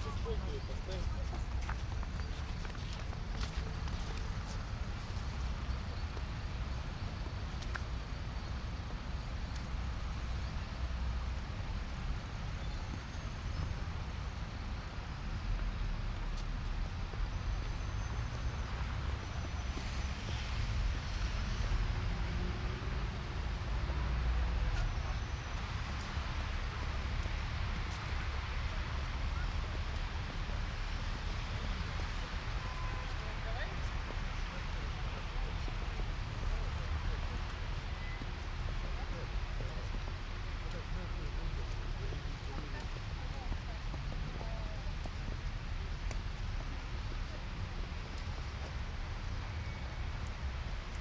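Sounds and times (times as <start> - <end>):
traffic noise with low rumble: 0.0 - 51.0.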